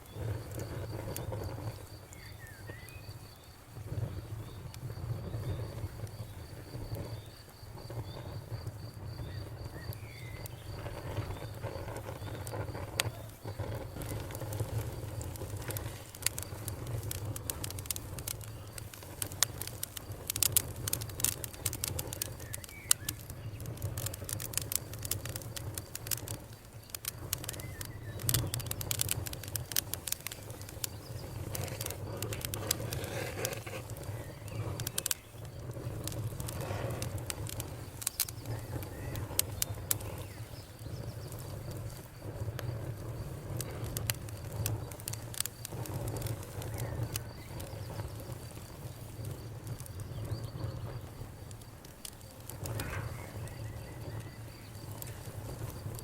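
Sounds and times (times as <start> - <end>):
campfire crackling and popping: 0.0 - 56.0
high insect trill: 0.0 - 56.0
low rumble of burning: 0.0 - 56.0.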